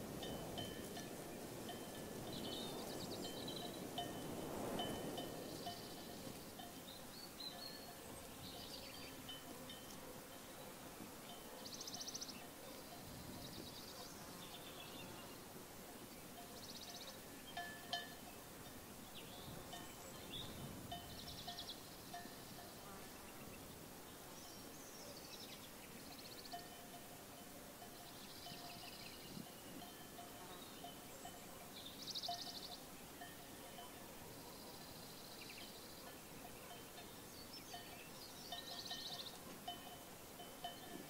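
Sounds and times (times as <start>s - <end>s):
songbirds singing trills: 0.2s - 27.0s, 27.8s - 41.0s.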